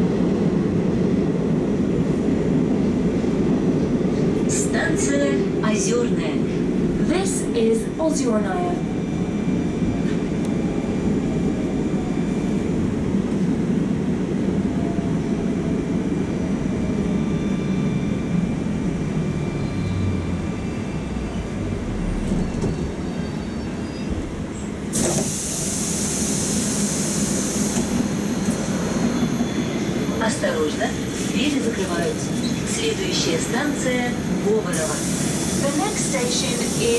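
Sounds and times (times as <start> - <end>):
train low rumble: 0.0 - 36.9.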